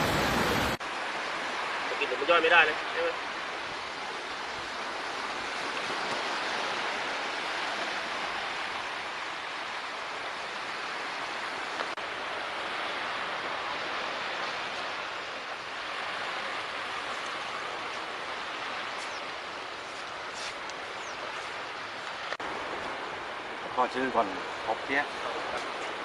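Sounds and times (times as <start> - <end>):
surf washing on a beach: 0.0 - 26.0.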